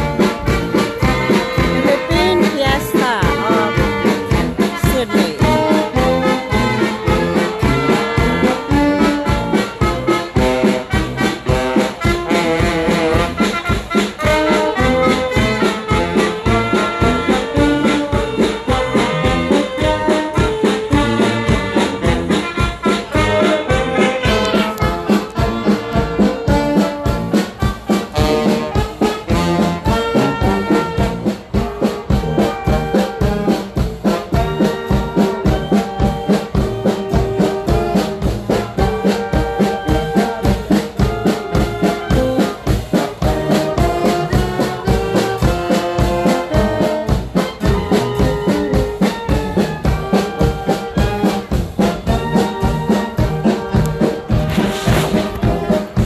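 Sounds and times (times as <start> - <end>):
brass band playing upbeat tune: 0.0 - 56.0
drum kit beat: 0.0 - 56.0.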